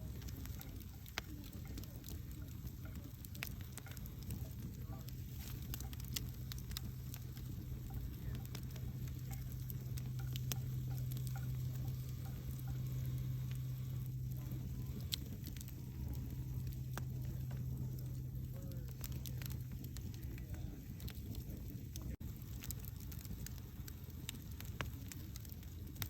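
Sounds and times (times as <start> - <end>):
campfire crackling: 0.0 - 26.0
steady low hum: 0.0 - 26.0.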